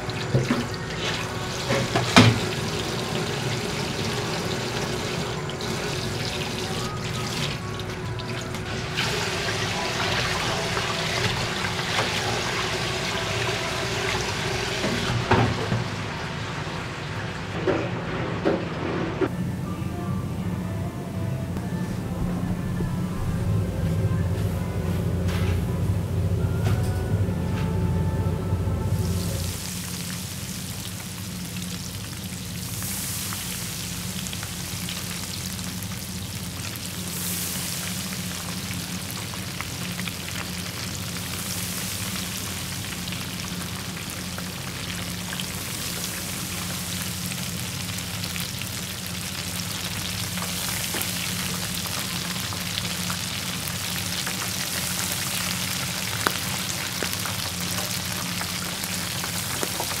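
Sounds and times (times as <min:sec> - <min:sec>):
shrimp sizzling in hot oil: 0:00.0 - 0:17.2, 0:29.0 - 1:00.0.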